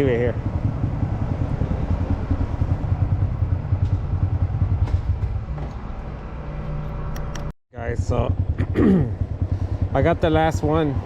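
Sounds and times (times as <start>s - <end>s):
motorcycle engine pulsing: 0.0s - 11.0s.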